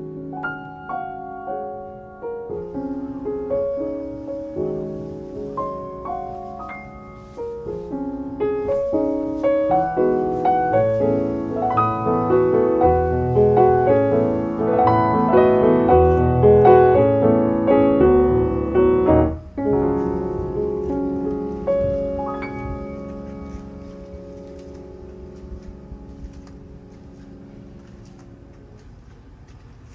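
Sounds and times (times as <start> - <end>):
gentle piano melody: 0.0 - 29.9.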